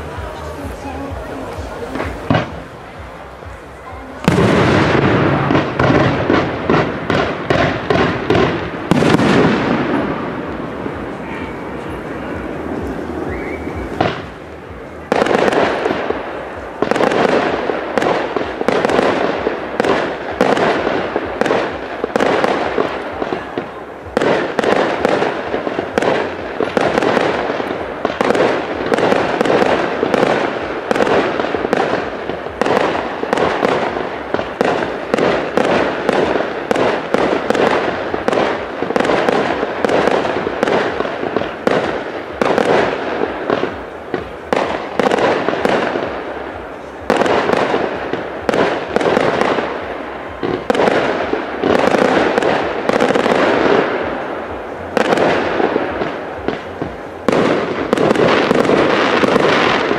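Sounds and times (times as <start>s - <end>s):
fireworks bursting with bangs and crackles: 0.0s - 59.9s.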